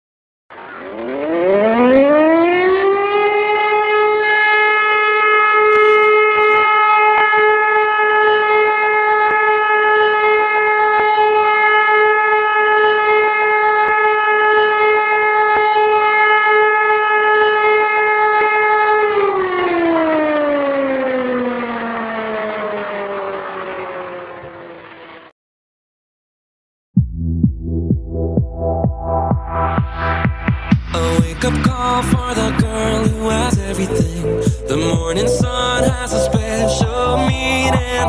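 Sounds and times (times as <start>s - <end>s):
siren wailing: 0.5s - 25.3s, 28.6s - 38.0s.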